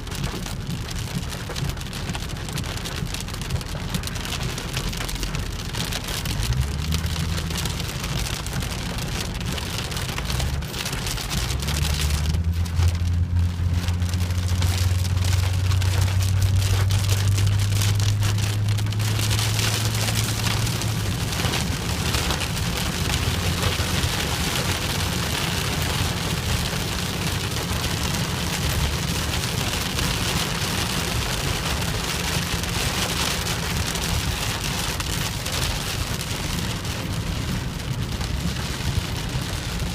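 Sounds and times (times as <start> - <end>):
low rumble: 0.0 - 39.9
rain falling: 0.0 - 39.9.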